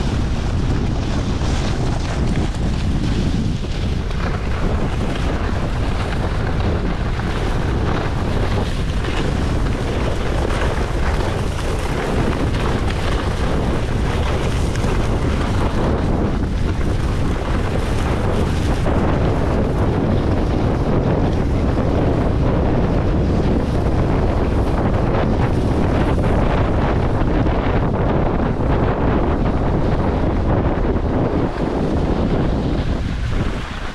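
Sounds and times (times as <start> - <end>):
skis sliding over snow: 0.0 - 33.9
wind rushing over microphone: 0.0 - 33.9.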